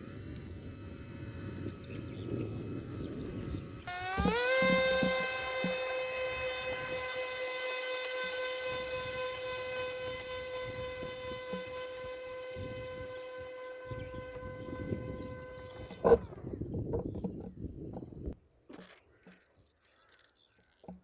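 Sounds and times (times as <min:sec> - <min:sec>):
electric motor propeller whine: 0:00.0 - 0:18.4.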